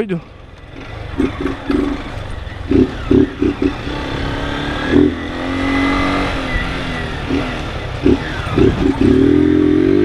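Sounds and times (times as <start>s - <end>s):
motorcycle engine revving: 0.2s - 10.0s.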